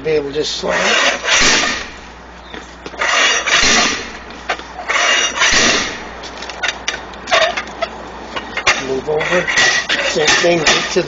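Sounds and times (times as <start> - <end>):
bead breaker scraping tire rim: 0.4 - 2.2, 2.9 - 11.0.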